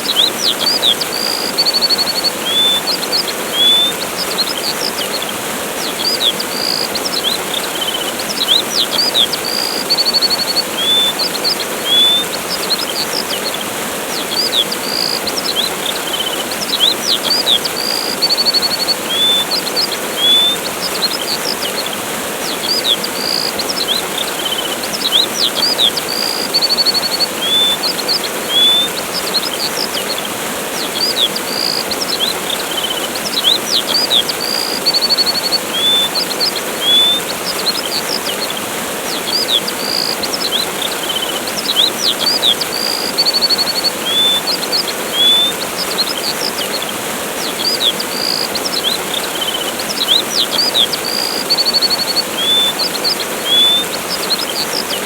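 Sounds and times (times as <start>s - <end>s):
small birds chirping: 0.0s - 55.0s
waterfall rushing: 0.0s - 55.0s.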